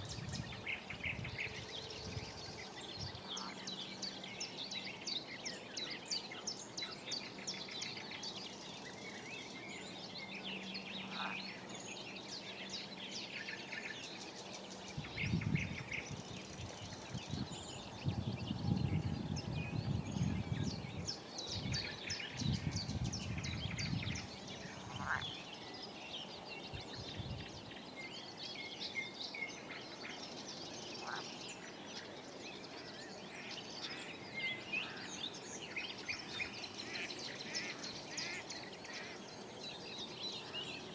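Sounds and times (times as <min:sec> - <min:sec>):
birds singing and chirping: 0:00.0 - 0:40.9.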